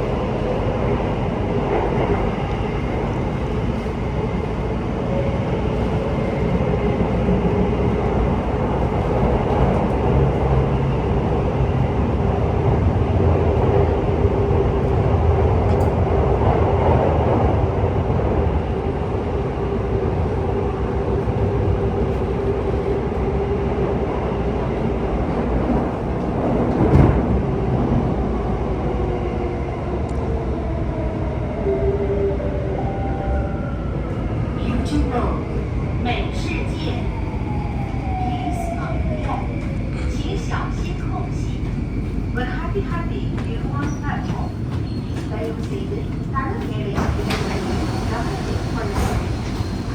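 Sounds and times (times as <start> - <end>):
metro train rumble: 0.0 - 49.9.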